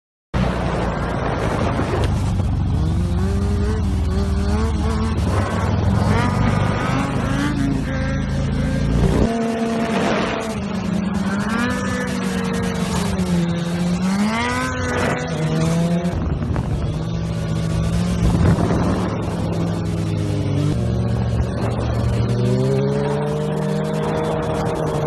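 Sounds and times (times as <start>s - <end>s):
motorcycle engine revving: 0.4s - 25.0s.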